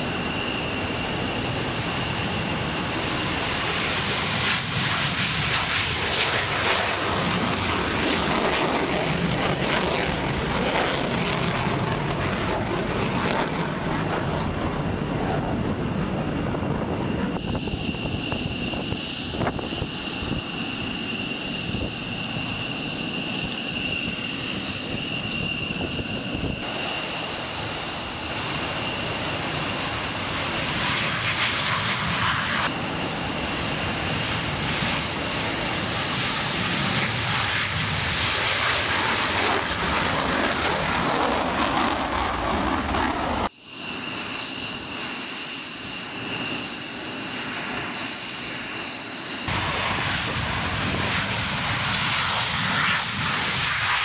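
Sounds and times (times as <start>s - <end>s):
jet engines roaring with whine: 0.0s - 54.0s.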